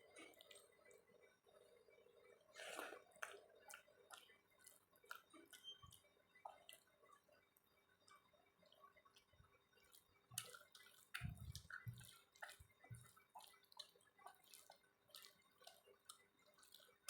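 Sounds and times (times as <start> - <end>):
wet chewing clicks and smacks: 2.7 - 17.0.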